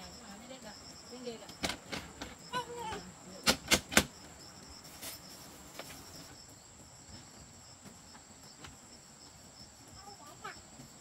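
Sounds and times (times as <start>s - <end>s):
insect chirping: 0.0s - 11.0s
insects buzzing: 0.0s - 11.0s.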